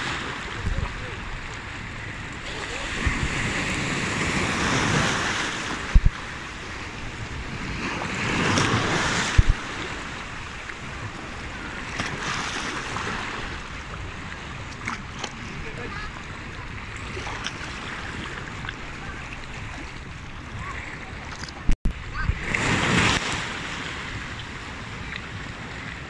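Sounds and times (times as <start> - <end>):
waves breaking against rocks: 0.0 - 26.0.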